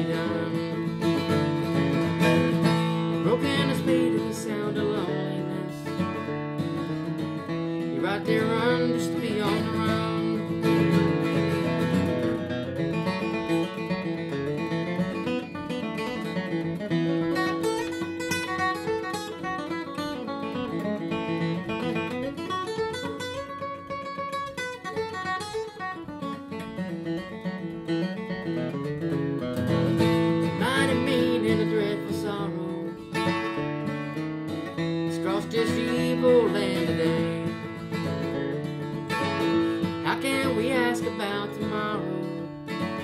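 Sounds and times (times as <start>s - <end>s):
acoustic guitar picking and strumming: 0.0s - 43.0s.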